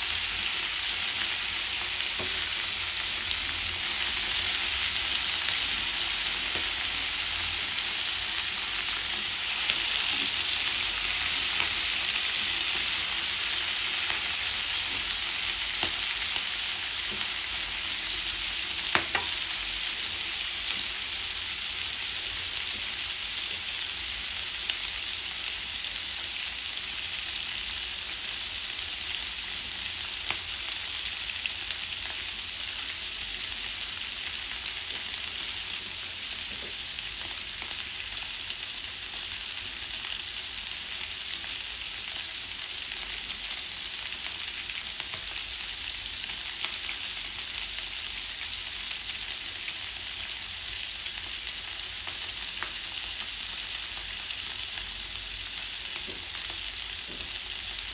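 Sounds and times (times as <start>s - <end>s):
vegetables sizzling in a frying pan: 0.0s - 57.9s.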